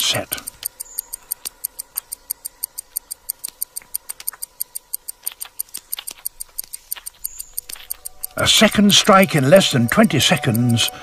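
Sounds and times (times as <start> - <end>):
quick clock-like ticking: 0.0 - 11.0.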